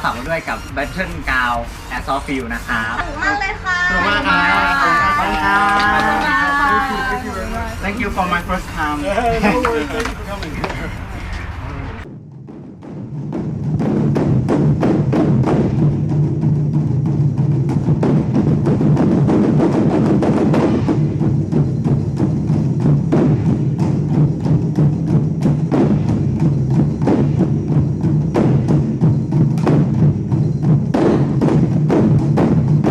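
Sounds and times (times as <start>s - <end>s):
wood block strikes: 0.0s - 11.4s, 17.7s - 32.9s
music with heavy percussion: 0.0s - 32.9s.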